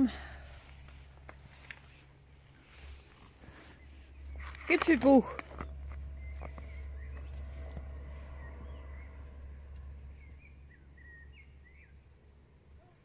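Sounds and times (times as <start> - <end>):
small birds singing: 0.0 - 13.0
steady low rumble: 0.0 - 13.0.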